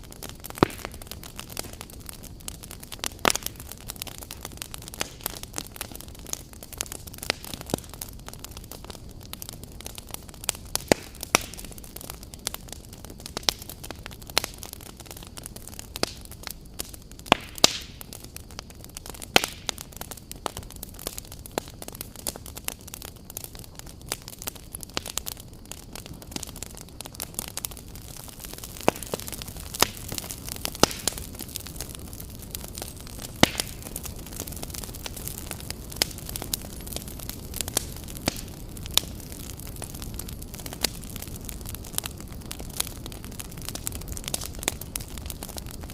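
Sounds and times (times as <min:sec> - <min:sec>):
campfire crackling and popping: 0:00.0 - 0:45.9
fire hissing: 0:00.0 - 0:45.9.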